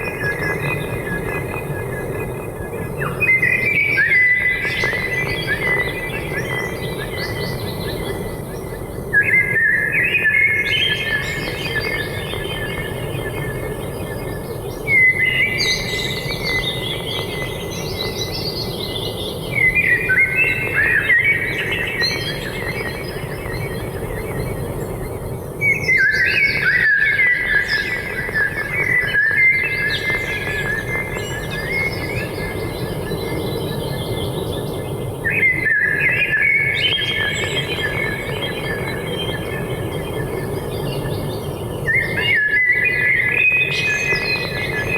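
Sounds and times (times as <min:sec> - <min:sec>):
songbirds chirping and trilling: 0:00.0 - 0:44.9.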